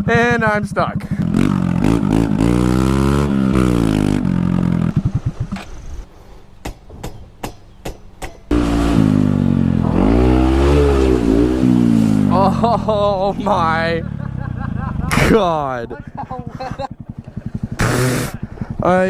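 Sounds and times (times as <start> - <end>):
dirt bike engine revving: 1.0 - 5.8, 8.5 - 19.0.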